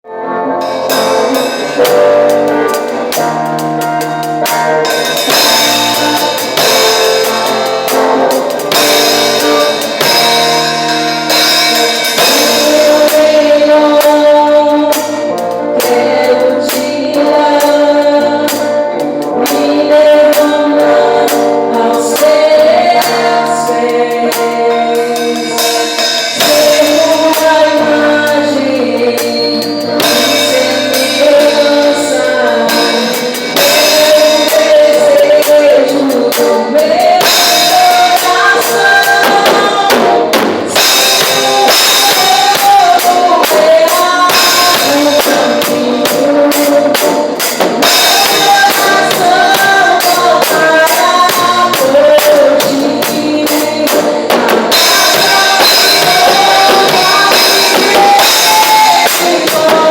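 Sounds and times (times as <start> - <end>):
worship band playing: 0.0 - 59.9
drum kit beat: 0.5 - 59.9
people singing: 4.8 - 59.9.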